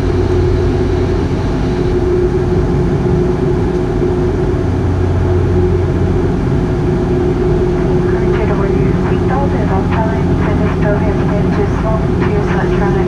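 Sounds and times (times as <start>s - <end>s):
turboprop cabin drone: 0.0s - 13.0s.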